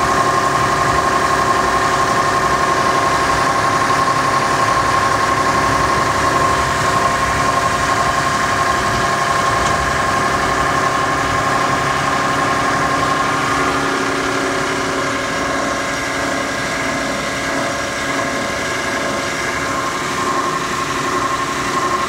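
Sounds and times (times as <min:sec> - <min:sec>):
shredder machine drone with whine: 0:00.0 - 0:22.0.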